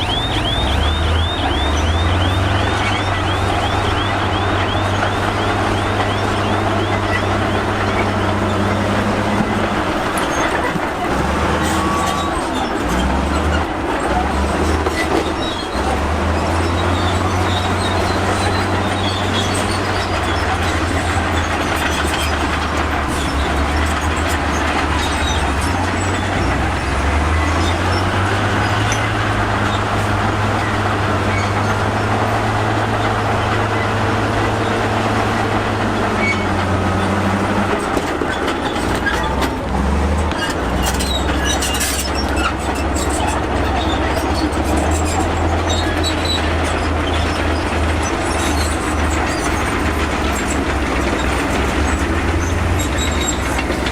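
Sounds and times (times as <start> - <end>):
bulldozer diesel engine: 0.0 - 53.9
clatter of steel tracks: 0.0 - 53.9.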